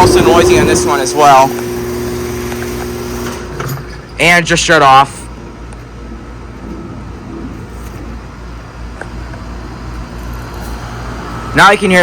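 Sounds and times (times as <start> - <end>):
compressor hum: 0.0 - 12.0
outdoor fan running: 0.0 - 12.0.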